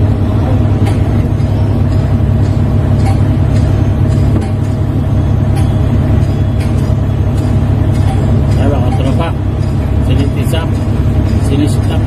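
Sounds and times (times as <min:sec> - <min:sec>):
heavy engine droning: 0:00.0 - 0:12.0.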